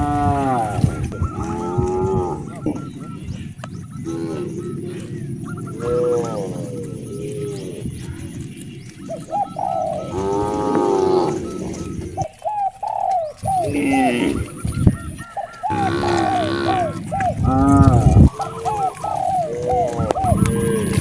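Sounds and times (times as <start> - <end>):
cattle lowing: 0.0 - 21.0
doves cooing: 0.0 - 21.0.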